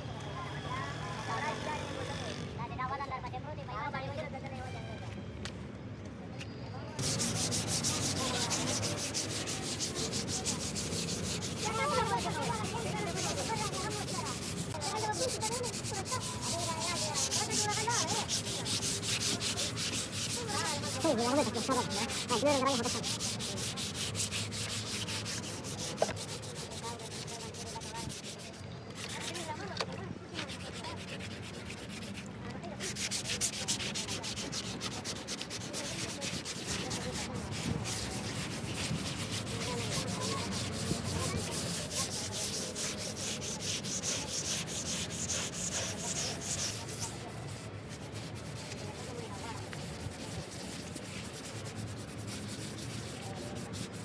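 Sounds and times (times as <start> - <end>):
sandpaper scrubbing wet panel: 7.0 - 54.0.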